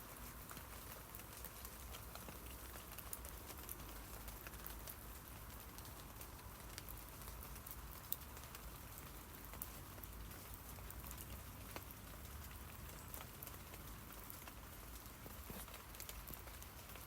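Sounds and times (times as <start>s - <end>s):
rain pattering on leaves: 0.0s - 17.0s.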